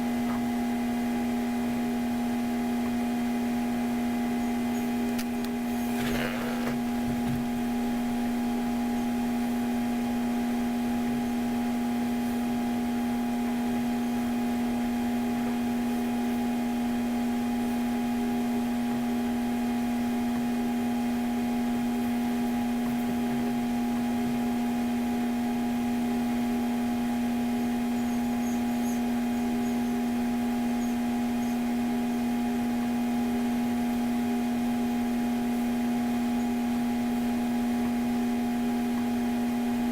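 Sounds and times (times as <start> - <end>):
steady machine hum: 0.0 - 18.7, 19.7 - 39.9.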